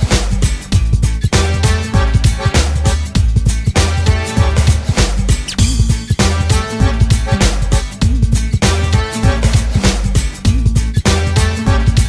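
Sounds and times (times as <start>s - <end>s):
funk background music: 0.0s - 12.0s.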